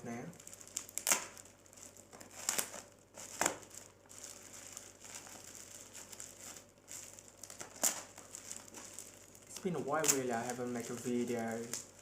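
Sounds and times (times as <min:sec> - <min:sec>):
packing crinkling and rustling: 0:00.3 - 0:12.0
sharp ripping: 0:00.4 - 0:12.0.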